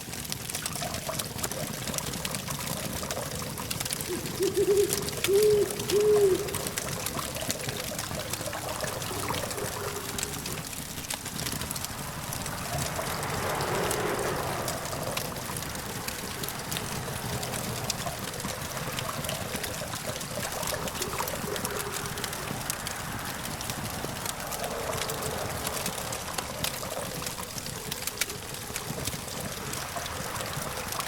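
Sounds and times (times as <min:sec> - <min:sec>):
campfire crackling: 0:00.0 - 0:31.0
distant traffic hum: 0:00.6 - 0:31.0.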